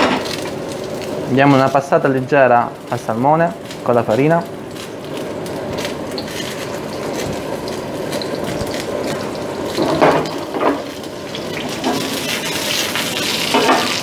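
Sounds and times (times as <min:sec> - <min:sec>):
fish sizzling in a frying pan: 0:00.0 - 0:14.0.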